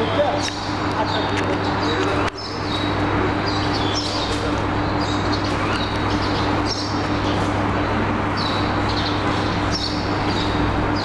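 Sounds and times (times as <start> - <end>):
birds chirping: 0.0 - 11.0
steady hum: 0.0 - 11.0.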